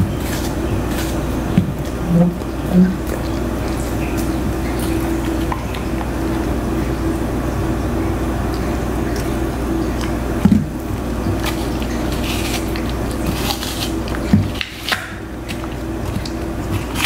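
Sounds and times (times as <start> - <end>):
dog crunching apple: 0.0 - 6.2, 9.1 - 17.0.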